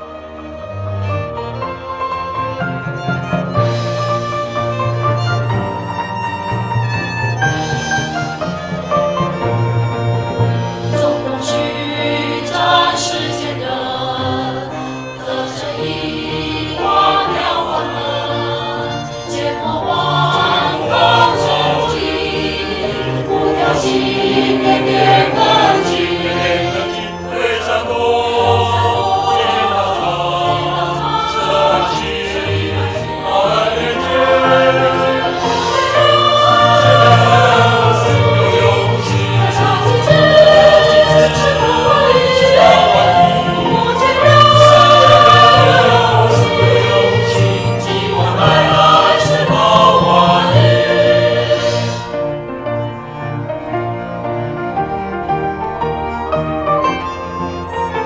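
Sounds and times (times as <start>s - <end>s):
choir singing a hymn: 0.0s - 58.0s
low instrumental accompaniment: 0.0s - 58.0s.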